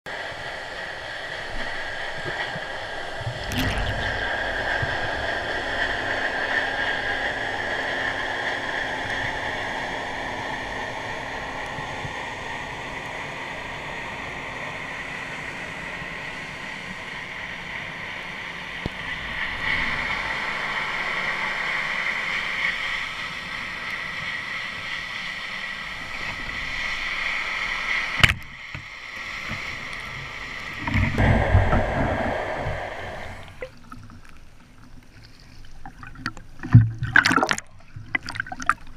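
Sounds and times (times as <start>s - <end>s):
low rumbling water noise: 0.1s - 38.9s
underwater hiss and hum: 0.1s - 38.9s.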